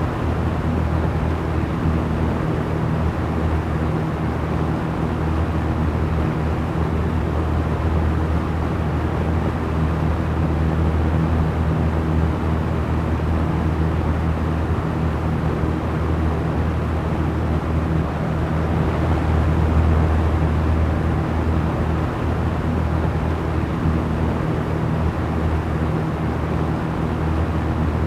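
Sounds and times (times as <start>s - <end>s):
electric fan running: 0.0s - 28.0s.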